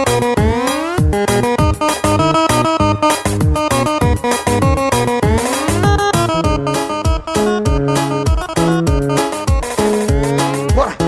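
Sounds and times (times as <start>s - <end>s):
bright keyboard melody: 0.0s - 11.0s
electronic dance music: 0.0s - 11.0s.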